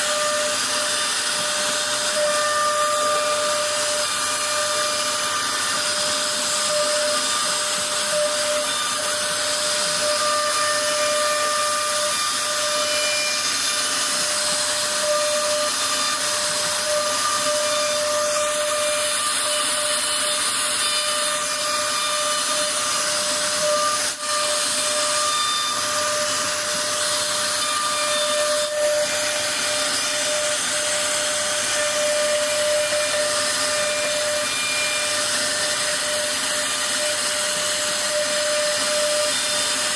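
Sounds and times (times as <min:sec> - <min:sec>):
hiss of wood cutting: 0:00.0 - 0:39.9
router spindle whine: 0:00.0 - 0:39.9.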